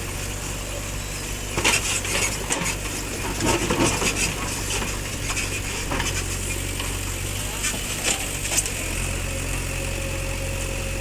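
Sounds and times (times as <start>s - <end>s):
diesel engine hum: 0.0s - 11.0s.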